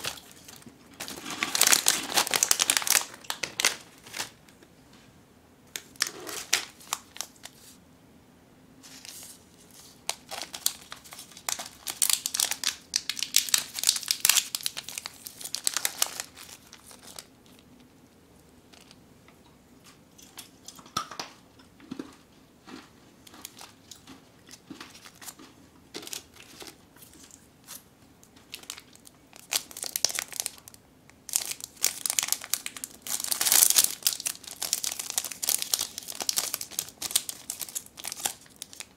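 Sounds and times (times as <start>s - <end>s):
plastic snack wrappers crinkling: 0.0s - 4.6s, 5.7s - 7.8s, 8.8s - 17.9s, 18.7s - 19.0s, 20.2s - 38.9s.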